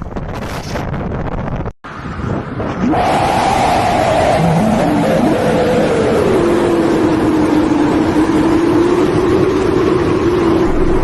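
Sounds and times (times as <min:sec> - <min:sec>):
howling wind on microphone: 0:00.0 - 0:11.0.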